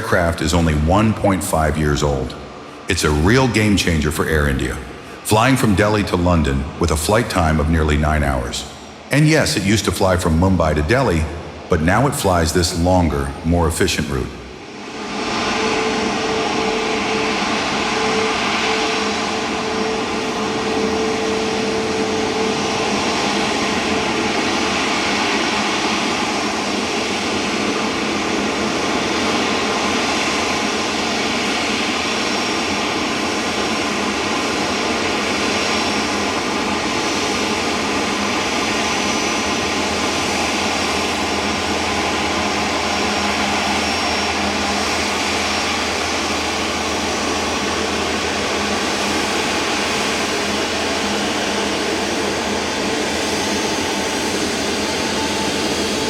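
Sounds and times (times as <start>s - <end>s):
jet engines running: 0.0s - 56.0s
steady whining tones: 0.0s - 56.0s.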